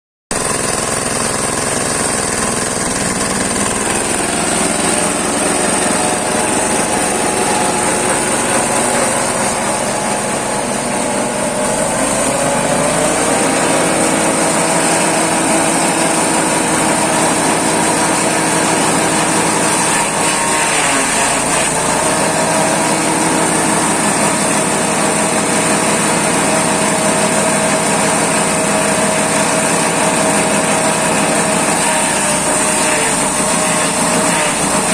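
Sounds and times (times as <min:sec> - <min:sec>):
small engine grass chopper running: 0:00.3 - 0:34.9.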